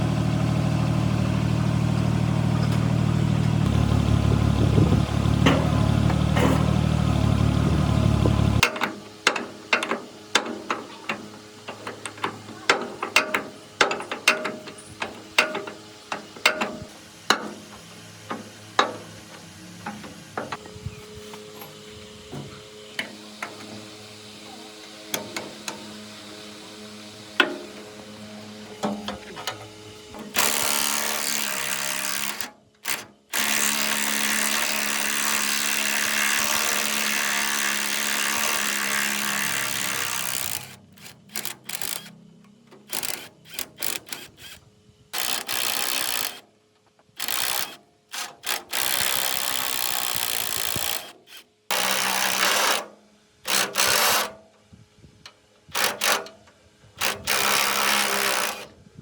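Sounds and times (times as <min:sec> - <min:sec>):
electric power tool running: 0:00.0 - 0:46.5, 0:47.1 - 0:54.4, 0:55.7 - 0:56.3, 0:57.0 - 0:58.8.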